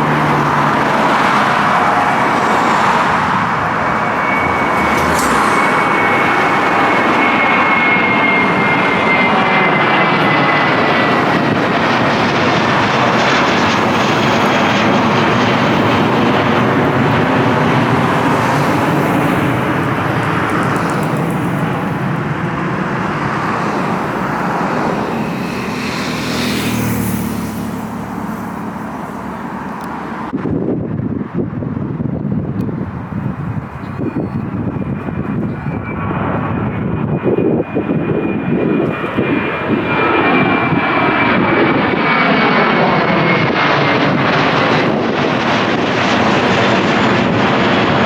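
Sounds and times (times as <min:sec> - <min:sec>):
jet airliner engines roaring: 0:00.0 - 0:48.0.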